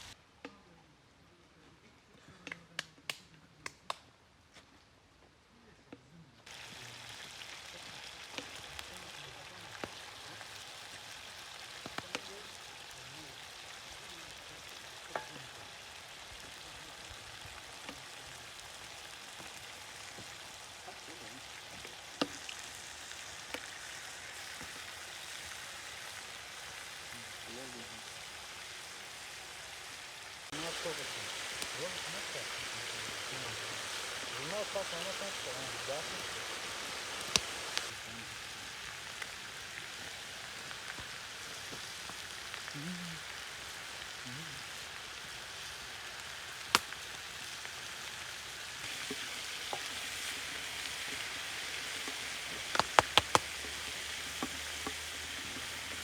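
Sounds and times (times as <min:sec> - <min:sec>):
meat sizzling: 0:06.5 - 0:56.0.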